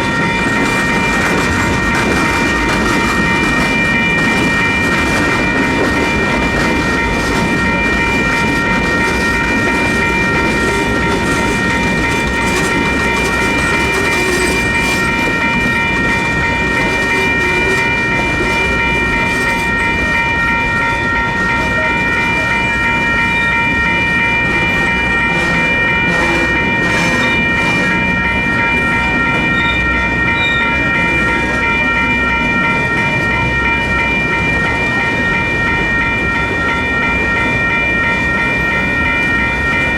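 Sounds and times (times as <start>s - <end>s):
crossing bells ringing: 0.0s - 39.9s
freight train cars rolling: 0.0s - 39.9s.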